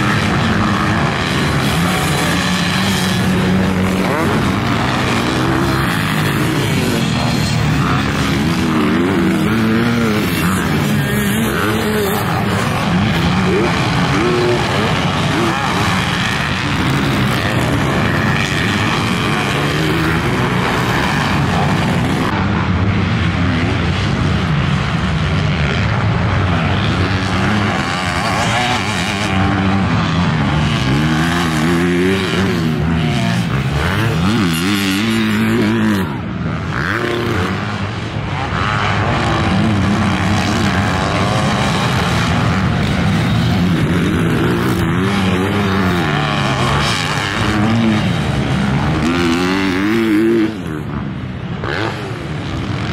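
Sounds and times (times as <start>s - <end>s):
dirt bike engines revving: 0.0s - 52.9s.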